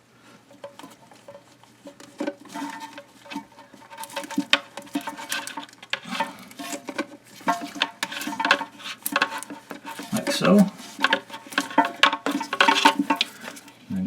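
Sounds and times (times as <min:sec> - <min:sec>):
plastic parts clicking and rubbing: 0:00.5 - 0:13.8.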